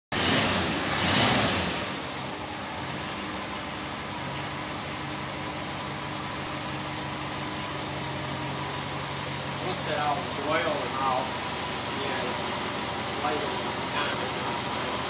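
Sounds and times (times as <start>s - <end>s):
engine idling: 0.2s - 15.0s.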